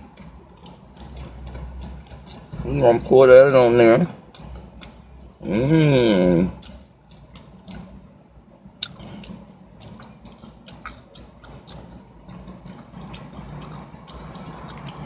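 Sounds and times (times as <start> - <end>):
wet squishing of sauce: 0.0 - 15.0.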